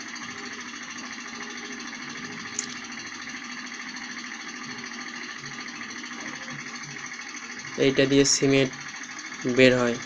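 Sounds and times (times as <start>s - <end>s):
engine running with mechanical chatter: 0.0s - 10.0s.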